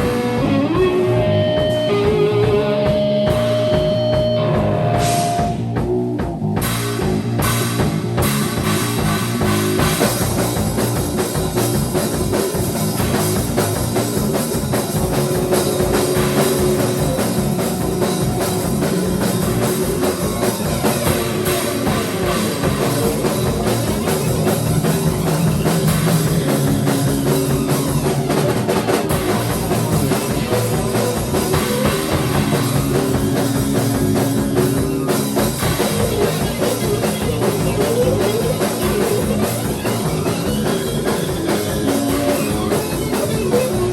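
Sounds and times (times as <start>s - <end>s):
rock band jamming: 0.0s - 43.9s
fast bass drum pulse: 1.1s - 43.9s.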